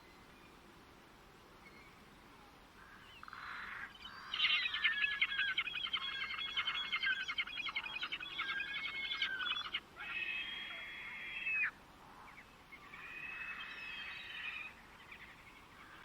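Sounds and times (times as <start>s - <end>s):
songbird twittering song: 1.6s - 10.8s, 11.5s - 16.0s.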